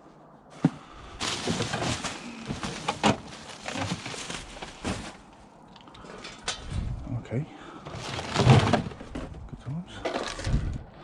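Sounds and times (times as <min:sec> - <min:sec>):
objects rustling and clattering: 0:00.5 - 0:07.0, 0:07.7 - 0:10.8.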